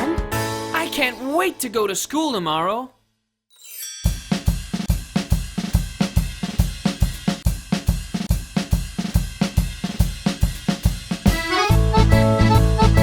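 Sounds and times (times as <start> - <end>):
drum kit playing a beat: 0.0 - 2.0, 4.1 - 13.0.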